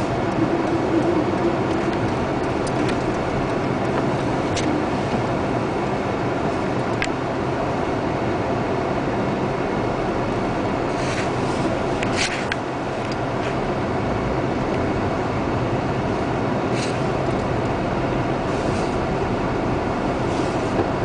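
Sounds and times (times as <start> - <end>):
car driving road noise: 0.0 - 21.0.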